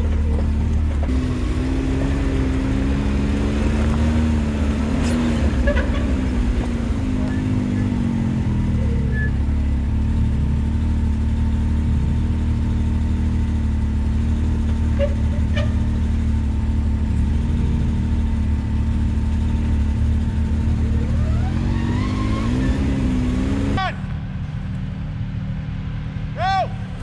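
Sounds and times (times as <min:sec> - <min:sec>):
utv engine idling and revving: 0:00.0 - 0:27.0.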